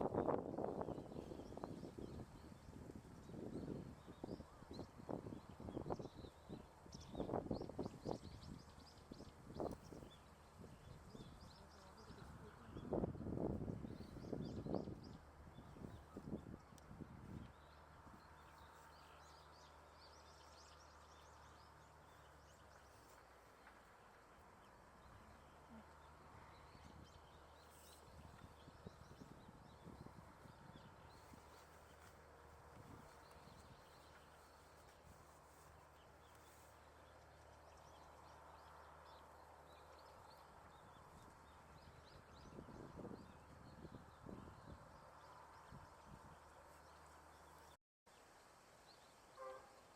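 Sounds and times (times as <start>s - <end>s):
small birds chirping: 0.8s - 49.1s.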